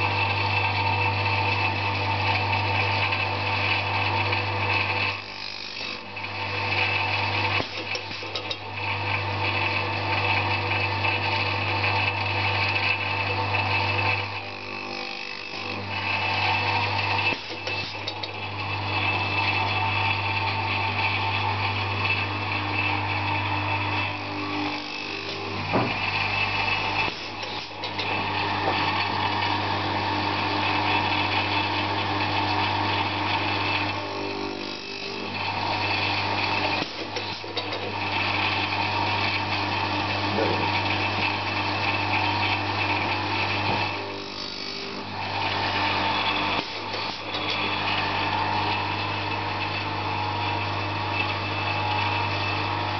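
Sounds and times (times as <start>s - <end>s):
blade grinding noise: 0.0s - 52.9s
grinder motor hum: 0.0s - 52.9s.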